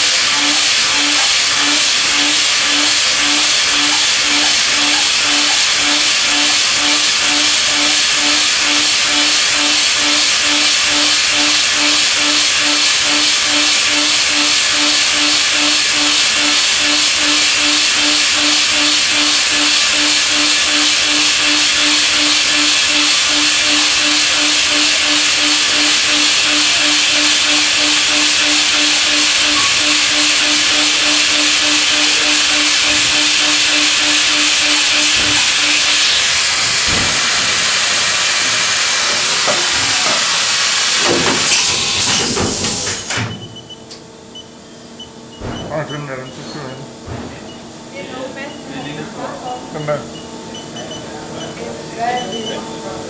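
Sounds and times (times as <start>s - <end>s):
milling machine running: 0.0s - 53.0s.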